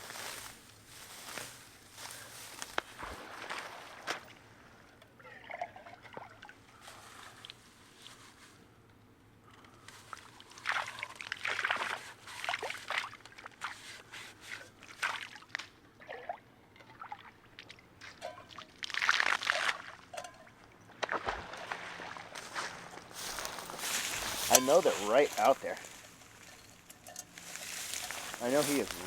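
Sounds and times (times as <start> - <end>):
water sloshing and splashing: 2.4 - 7.6, 10.0 - 29.0.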